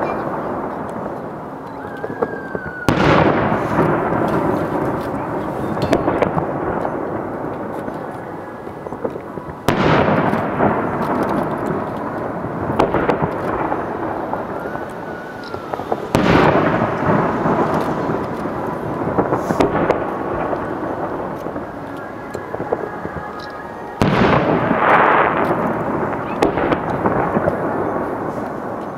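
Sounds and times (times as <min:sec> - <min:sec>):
fireworks booming: 0:00.0 - 0:28.9
fireworks pops and crackles: 0:00.0 - 0:28.9.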